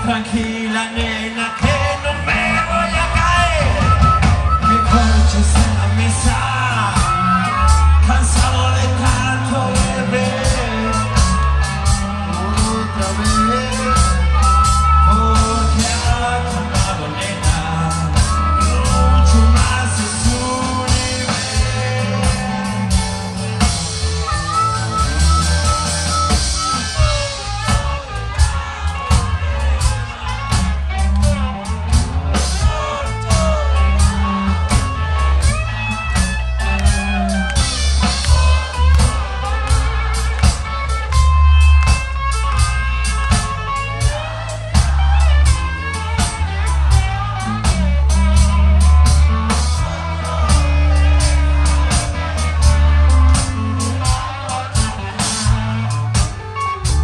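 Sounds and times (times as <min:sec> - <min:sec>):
dense drum beats: 0:00.0 - 0:57.0
electric guitars: 0:00.0 - 0:57.0.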